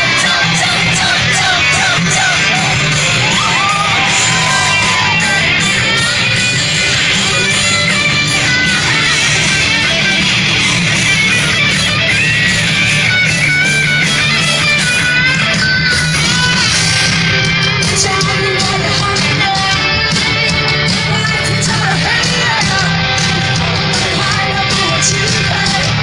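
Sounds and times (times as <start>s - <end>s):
live rock band playing loud: 0.0s - 26.0s.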